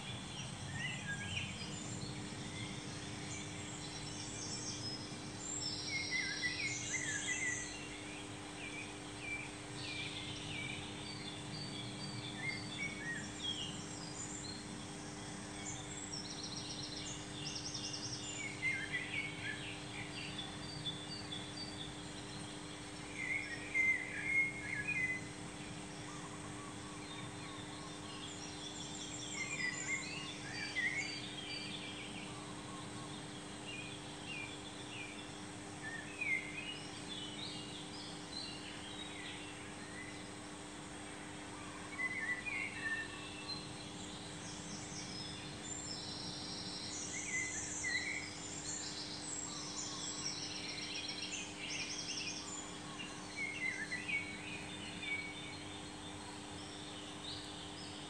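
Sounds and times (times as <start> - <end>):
birds chirping and trilling: 0.0 - 58.0
steady low hum: 0.0 - 58.0.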